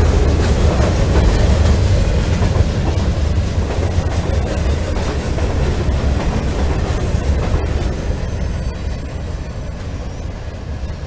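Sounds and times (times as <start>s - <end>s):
freight train cars rolling: 0.0s - 11.0s.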